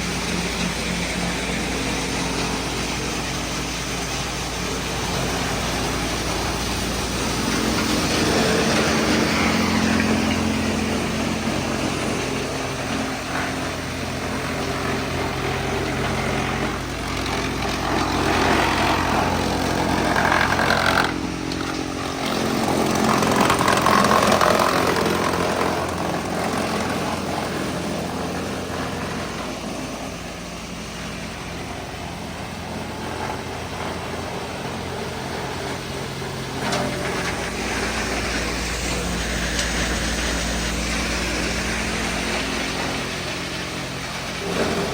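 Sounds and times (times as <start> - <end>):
wood chipper grinding: 0.0 - 44.9.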